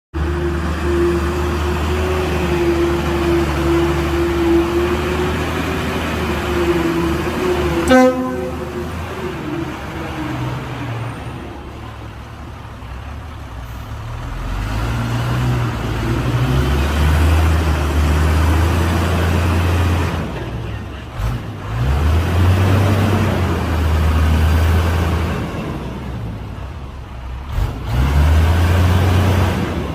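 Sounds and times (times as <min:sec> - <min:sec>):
diesel truck engine droning: 0:00.1 - 0:29.9.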